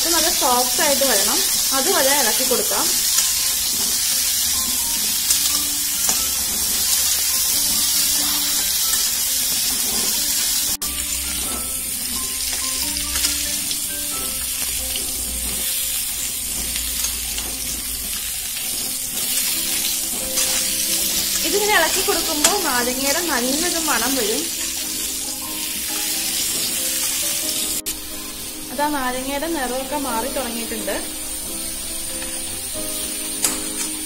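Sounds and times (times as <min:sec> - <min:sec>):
spatula turning food: 0:00.0 - 0:28.7, 0:30.2 - 0:34.0
lemons sizzling in a pan: 0:00.0 - 0:34.0
soft background music: 0:00.0 - 0:34.0.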